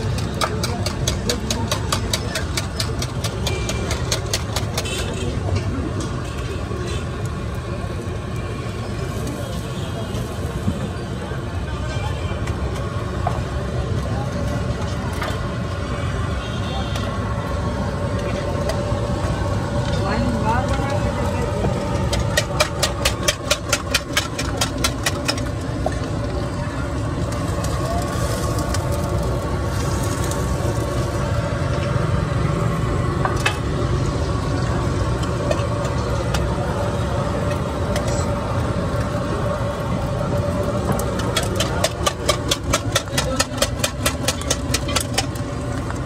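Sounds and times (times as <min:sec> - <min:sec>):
low rumble of engines: 0:00.0 - 0:46.0.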